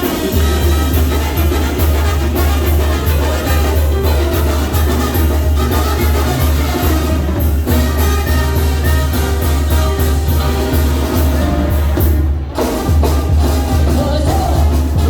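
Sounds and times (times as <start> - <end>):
latin dance music with heavy bass: 0.0 - 15.0.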